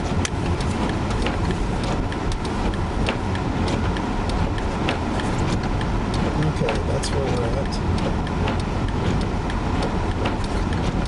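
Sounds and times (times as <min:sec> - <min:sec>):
road and engine rumble: 0:00.0 - 0:11.0
sharp ticks: 0:00.2 - 0:10.8.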